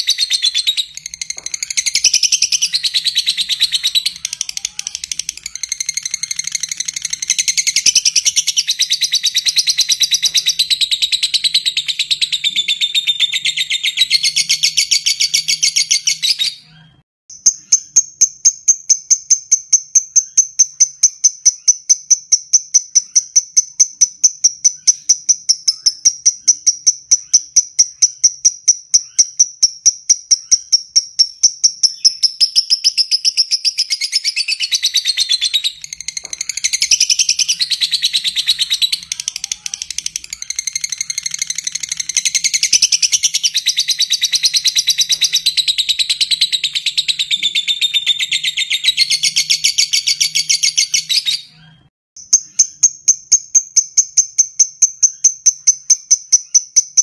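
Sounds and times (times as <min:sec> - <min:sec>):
lovebird rattling chatter song: 0:00.0 - 0:16.4, 0:17.4 - 0:51.5.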